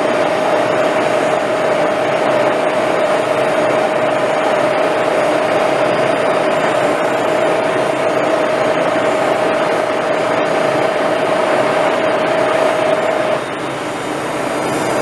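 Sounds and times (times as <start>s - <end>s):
grinder motor whine: 0.0s - 15.0s
lathe running: 0.0s - 15.0s.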